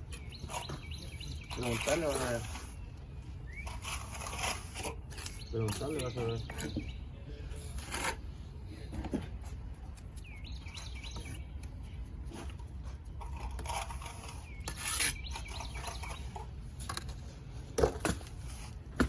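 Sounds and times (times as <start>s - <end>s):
hand tool scraping stucco: 0.0s - 19.0s.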